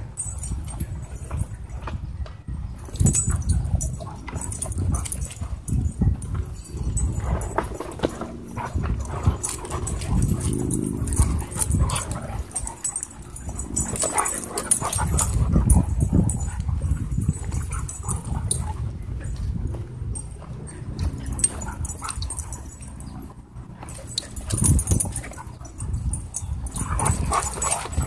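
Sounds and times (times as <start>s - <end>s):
dogs scuffling and thudding: 0.0s - 28.0s
drawn-out dog vocalization: 2.8s - 19.6s, 20.2s - 28.0s.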